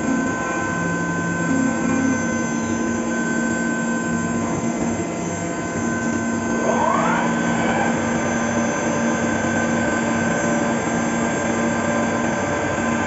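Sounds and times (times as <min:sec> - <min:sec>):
machine hum: 0:00.0 - 0:13.0
spindle whine: 0:00.0 - 0:13.0.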